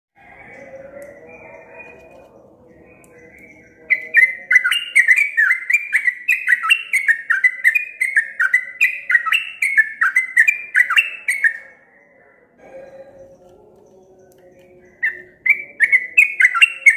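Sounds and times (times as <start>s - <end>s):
bird singing rapid whistled notes: 0.4s - 11.8s, 13.0s - 16.9s.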